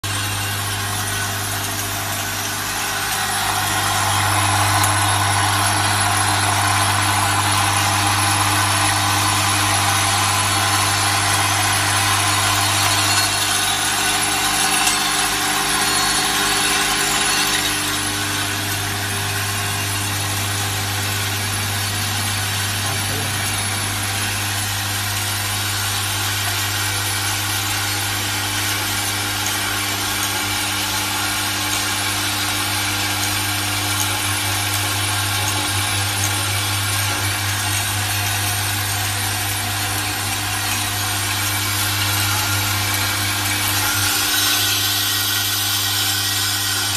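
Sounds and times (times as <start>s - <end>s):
machine low hum: 0.1s - 46.9s.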